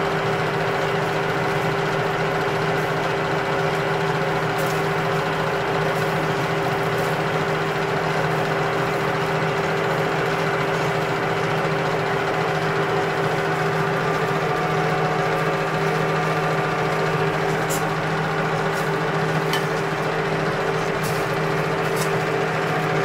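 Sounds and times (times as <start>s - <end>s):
metal lathe humming: 0.0s - 23.0s.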